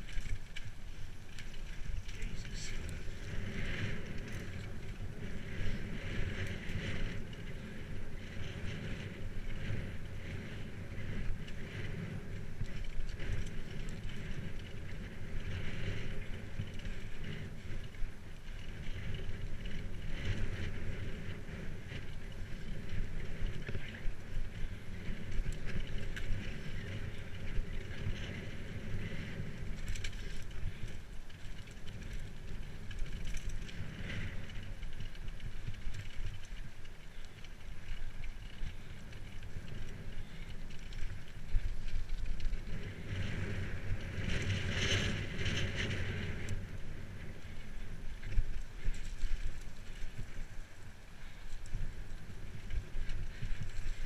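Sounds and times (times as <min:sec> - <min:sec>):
bicycle tyres rumbling on dirt: 0:00.0 - 0:54.0
wind buffeting microphone: 0:00.0 - 0:54.0.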